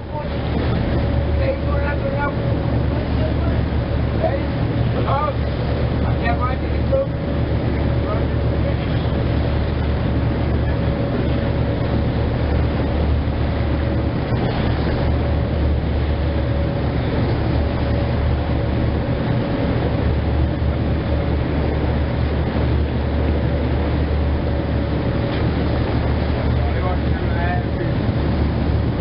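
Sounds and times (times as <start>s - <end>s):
boat engine droning: 0.0s - 29.0s
bow wave splashing along hull: 0.0s - 29.0s.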